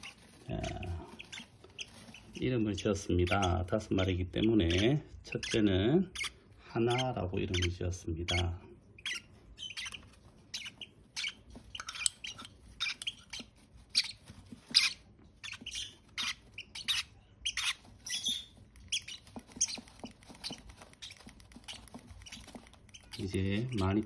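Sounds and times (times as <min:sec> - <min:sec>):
baby parrots cheeping: 0:00.0 - 0:24.0.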